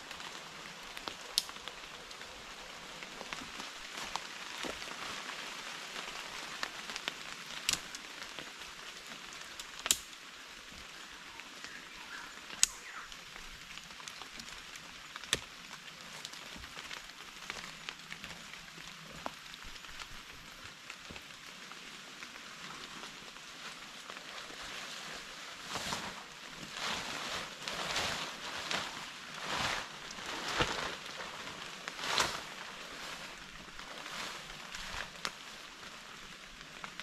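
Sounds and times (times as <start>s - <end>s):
steady rain hissing: 0.0s - 37.0s.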